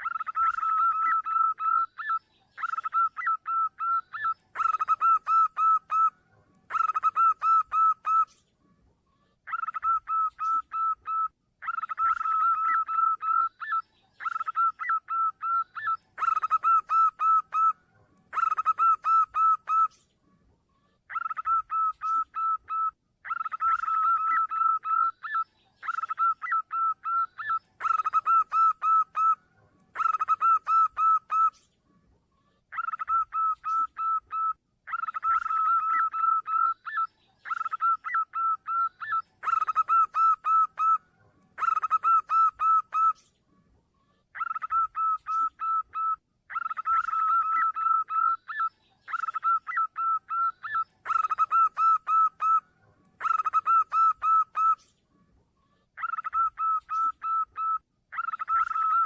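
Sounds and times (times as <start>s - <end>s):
dove cooing: 0.0s - 8.4s, 9.4s - 20.0s, 21.1s - 31.7s, 32.7s - 43.3s, 44.3s - 54.9s, 56.0s - 59.0s.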